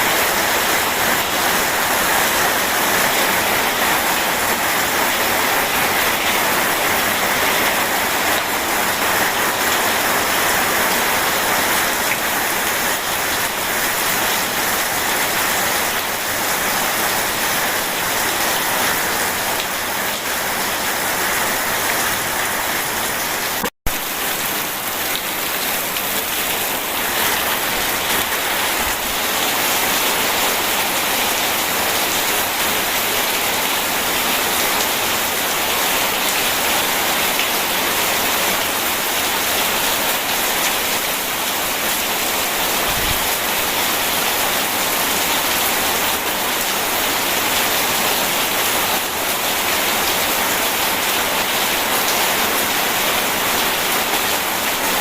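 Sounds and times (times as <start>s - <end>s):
heavy rain splashing: 0.0s - 55.0s.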